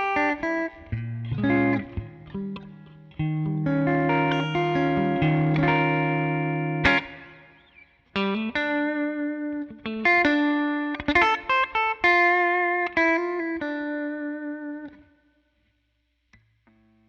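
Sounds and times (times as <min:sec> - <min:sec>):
electric guitar notes and chords: 0:00.0 - 0:15.1.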